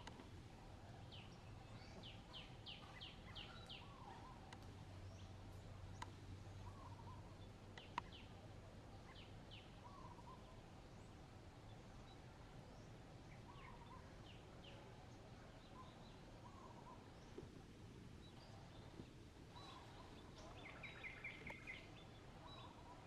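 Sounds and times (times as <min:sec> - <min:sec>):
faint bird chirps: 0:00.1 - 0:23.0.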